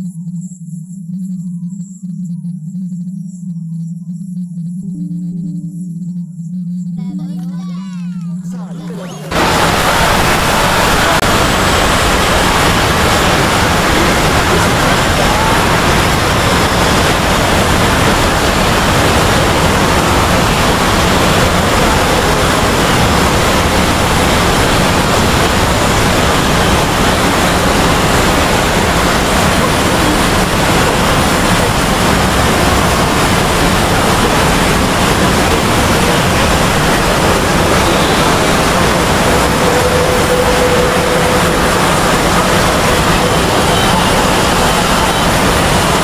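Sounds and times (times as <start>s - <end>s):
many soundtracks playing at once: 8.3s - 46.0s.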